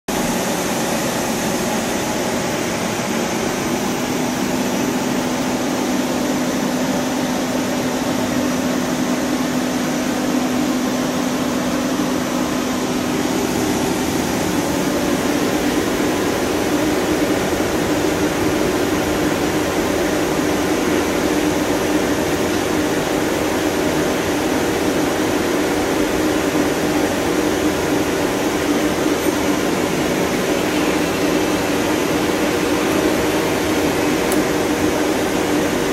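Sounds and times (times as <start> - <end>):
machine hum and whir: 0.1 - 35.9.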